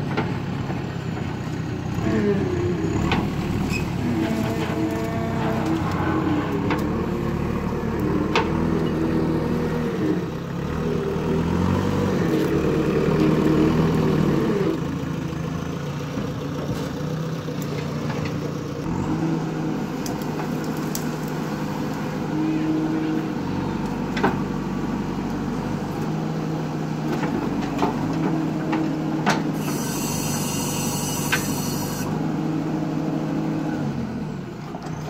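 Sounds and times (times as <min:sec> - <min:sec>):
diesel engine running under load: 0:00.0 - 0:35.0.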